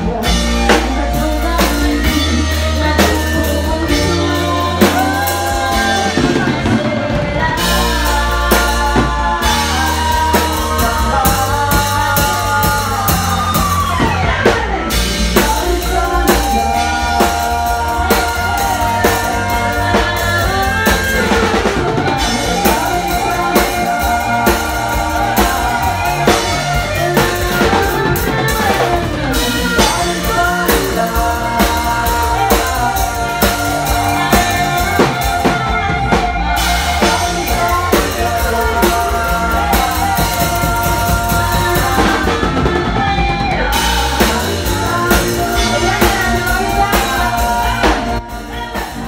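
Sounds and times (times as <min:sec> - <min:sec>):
drum kit beat: 0:00.0 - 0:49.0
live band playing: 0:00.0 - 0:49.0
person singing: 0:00.0 - 0:49.0.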